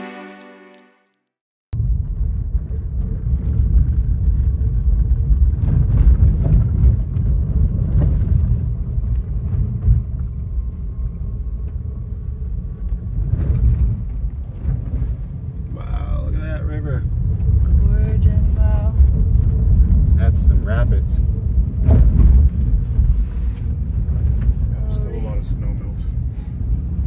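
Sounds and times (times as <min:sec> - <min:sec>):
tyres rumbling on gravel road: 0:01.8 - 0:27.0.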